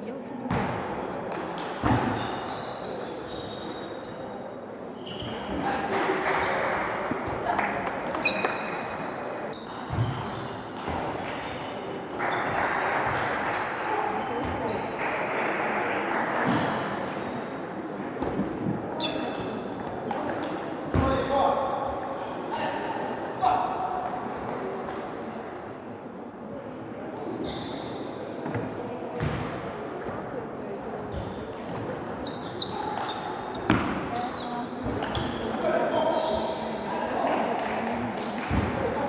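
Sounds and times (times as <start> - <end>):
sports hall noise: 0.0 - 39.0.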